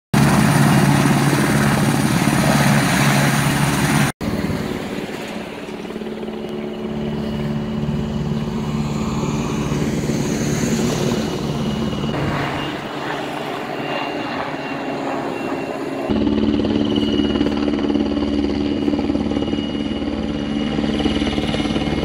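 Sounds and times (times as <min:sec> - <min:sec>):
helicopter engine and rotor: 0:00.2 - 0:22.0.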